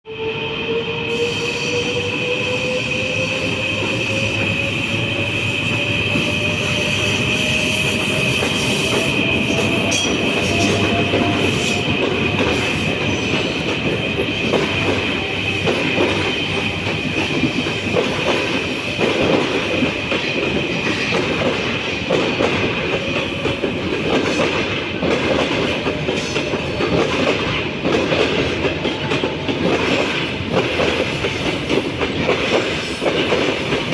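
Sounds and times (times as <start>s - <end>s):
electric locomotive whine: 0.1s - 33.9s
train wheels clattering on rails: 1.3s - 33.9s.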